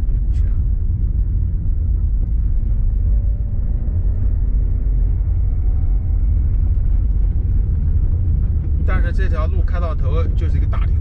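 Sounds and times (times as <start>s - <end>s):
car engine and tyre rumble: 0.0s - 11.0s
faint whine: 0.0s - 11.0s.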